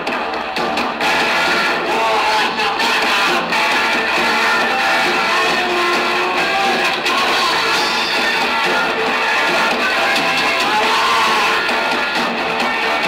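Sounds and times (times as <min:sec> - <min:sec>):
electric guitars: 0:00.0 - 0:13.0
punk rock band playing live: 0:00.0 - 0:13.0.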